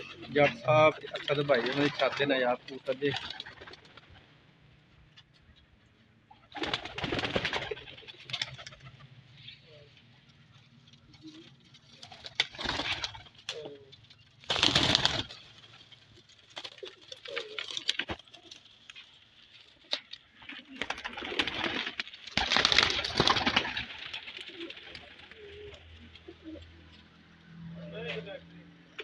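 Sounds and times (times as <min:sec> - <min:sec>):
wings flapping: 0:00.0 - 0:04.3, 0:06.3 - 0:09.3, 0:09.9 - 0:26.8
pigeons cooing softly: 0:00.0 - 0:04.4, 0:05.3 - 0:22.1, 0:22.9 - 0:29.0.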